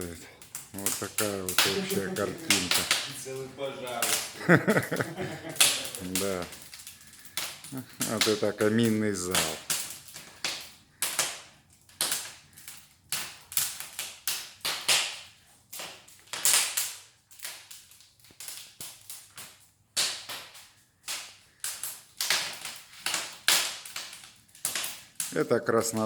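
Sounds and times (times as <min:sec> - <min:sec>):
logs crackling and popping in fireplace: 0:00.0 - 0:26.0.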